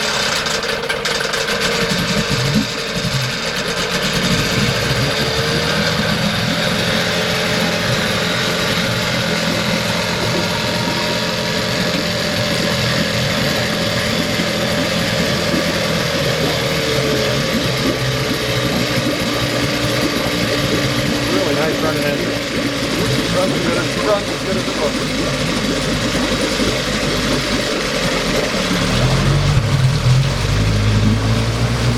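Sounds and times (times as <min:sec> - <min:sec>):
outboard motor idling: 0:00.0 - 0:31.9.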